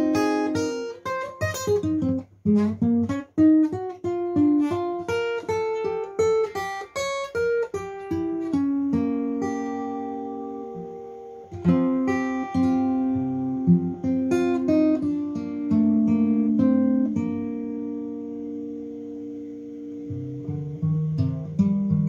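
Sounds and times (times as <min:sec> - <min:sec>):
acoustic guitar plucking: 0:00.0 - 0:22.0.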